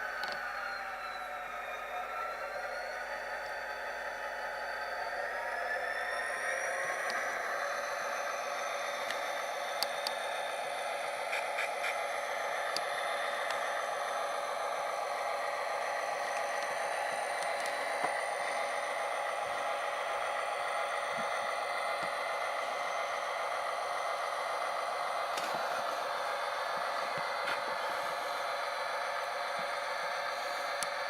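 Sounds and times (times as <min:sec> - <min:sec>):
diesel engine sound from small speaker: 0:00.0 - 0:31.0.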